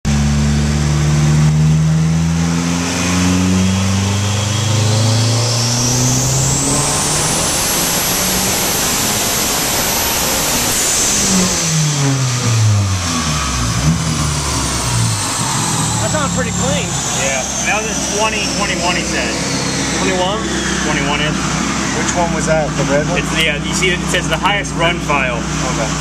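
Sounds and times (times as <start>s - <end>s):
engine revving at full throttle: 0.1s - 26.0s
high-pitched turbo whine: 0.1s - 26.0s.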